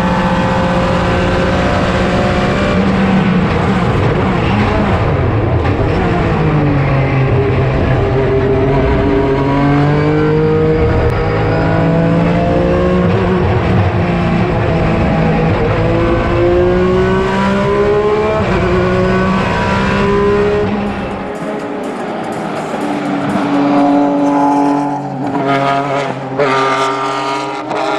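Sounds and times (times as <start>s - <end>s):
race car engine accelerating: 0.0s - 27.9s.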